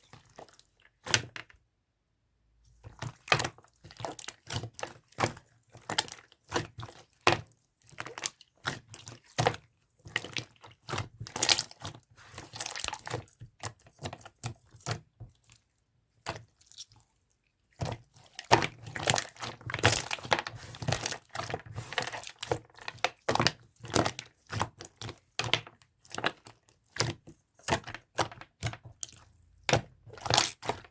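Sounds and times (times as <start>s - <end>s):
slime squishing with sticky clicks: 2.8s - 30.9s.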